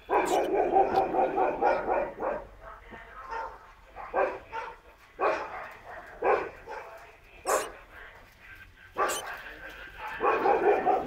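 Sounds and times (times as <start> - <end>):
dog barking: 0.0 - 2.6, 3.3 - 7.8, 9.0 - 11.0.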